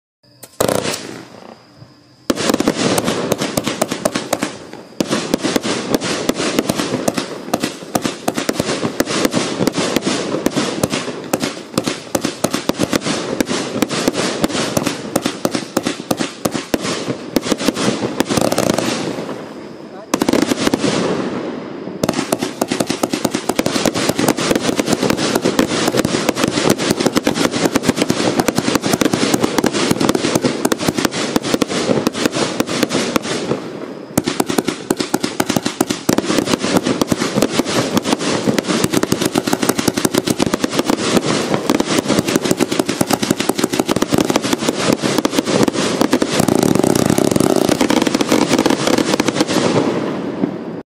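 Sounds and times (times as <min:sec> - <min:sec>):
firework cake firing shots: 0:00.4 - 0:01.3, 0:02.3 - 0:21.3, 0:22.0 - 0:50.6.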